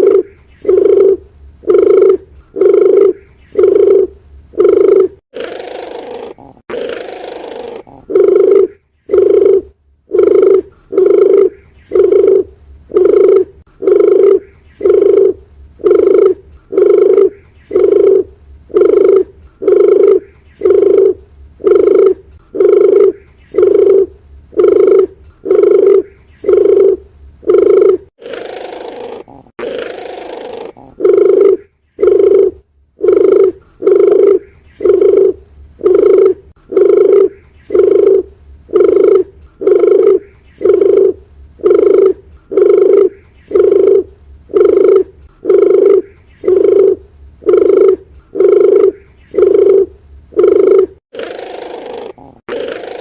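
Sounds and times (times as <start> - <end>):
dove cooing: 0.0 - 53.0.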